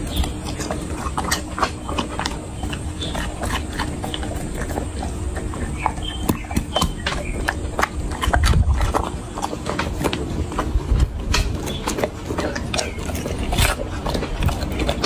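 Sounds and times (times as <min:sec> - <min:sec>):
dog chewing and licking food: 0:00.0 - 0:15.0.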